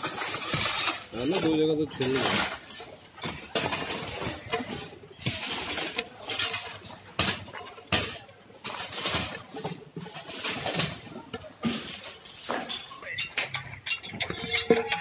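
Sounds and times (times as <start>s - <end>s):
rubble scraping and clattering: 0.0s - 15.0s.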